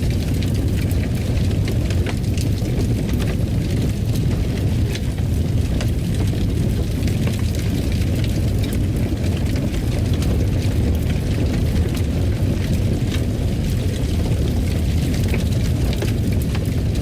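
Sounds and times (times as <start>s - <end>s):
fire burning in fireplace: 0.0s - 17.0s
fire crackles and pops: 0.0s - 17.0s.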